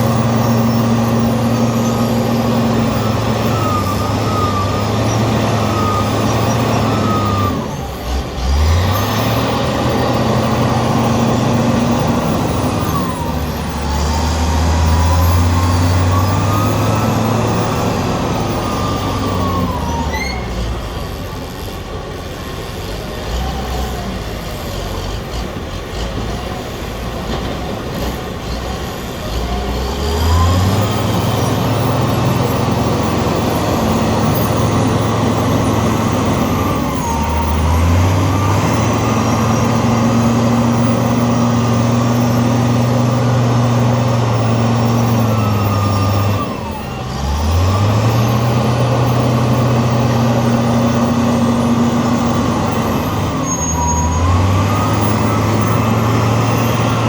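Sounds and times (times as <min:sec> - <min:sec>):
diesel engine revving under load: 0:00.0 - 0:57.0.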